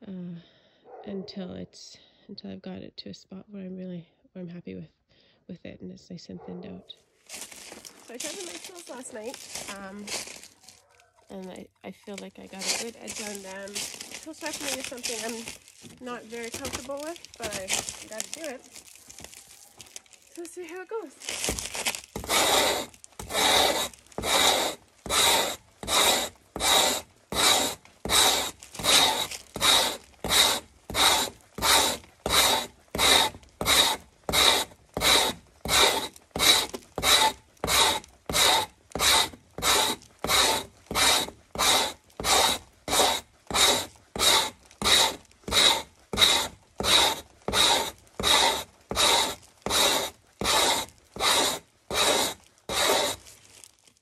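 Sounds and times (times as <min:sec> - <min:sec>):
scraper rasping on frozen hide: 0:07.3 - 0:53.7.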